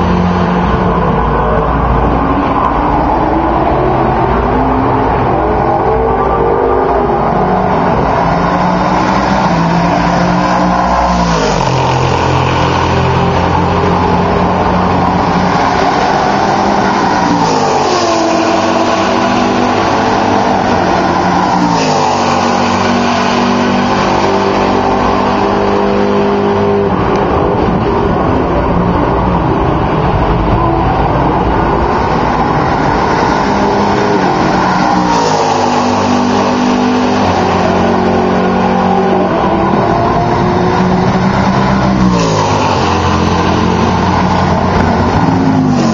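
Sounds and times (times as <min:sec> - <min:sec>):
race cars passing at full throttle: 0:00.0 - 0:45.9.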